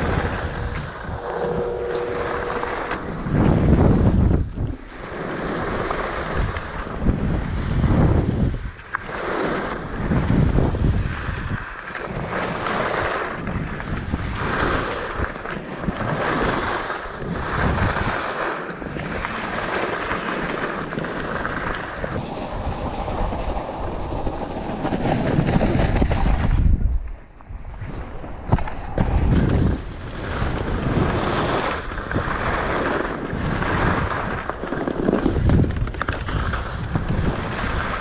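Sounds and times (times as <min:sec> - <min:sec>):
skis scraping over snow: 0:00.0 - 0:26.2, 0:29.4 - 0:38.0
wind rushing over microphone: 0:00.0 - 0:38.0.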